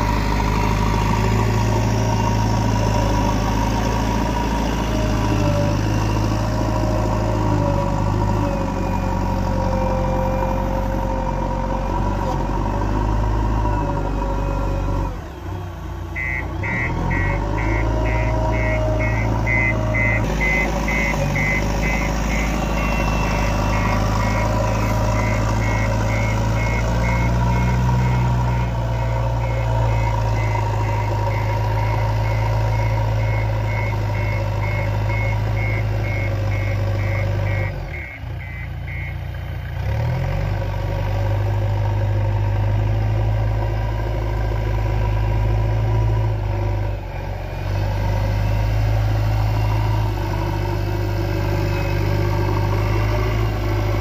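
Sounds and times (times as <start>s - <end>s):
reversing alarm beeping: 0.0s - 40.2s, 44.5s - 54.0s
diesel engine running: 0.0s - 54.0s.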